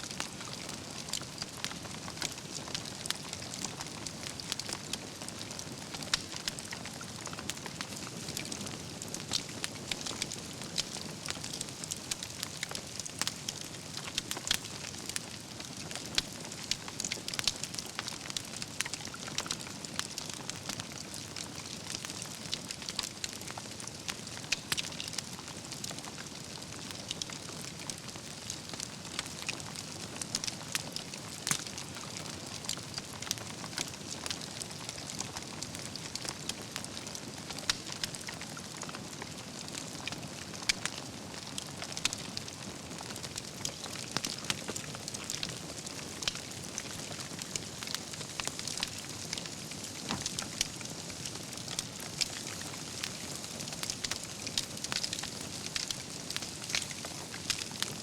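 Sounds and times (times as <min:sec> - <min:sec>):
campfire logs crackling: 0:00.1 - 0:58.0.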